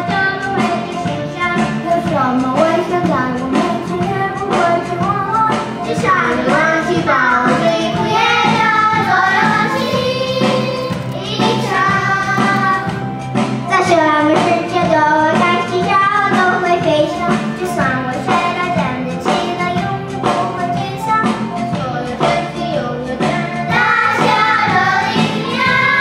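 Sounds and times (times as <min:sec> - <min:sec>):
children singing into microphones: 0:00.0 - 0:26.0
music accompaniment: 0:00.0 - 0:26.0.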